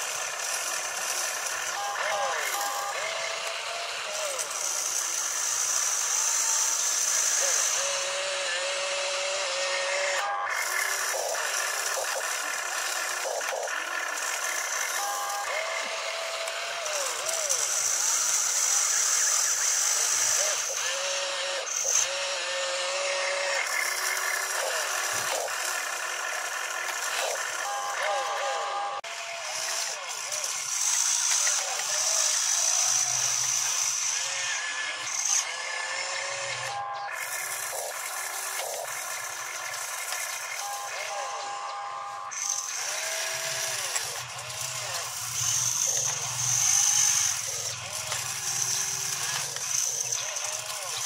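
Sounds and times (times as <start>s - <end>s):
electric motors whining: 0.0s - 51.0s.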